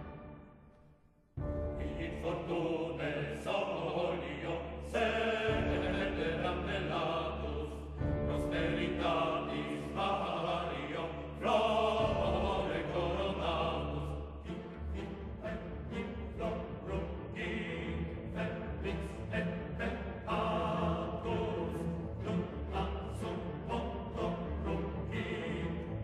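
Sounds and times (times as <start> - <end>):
choir singing with music: 0.0 - 26.0.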